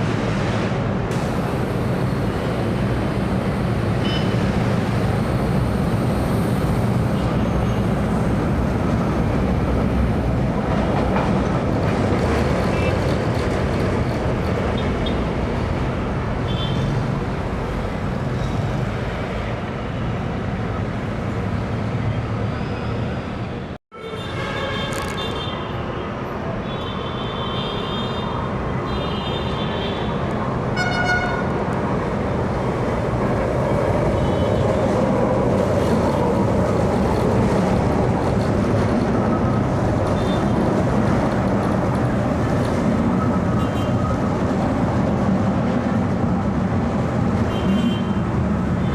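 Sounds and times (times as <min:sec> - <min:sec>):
light rail train rumbling: 0:00.0 - 0:48.9.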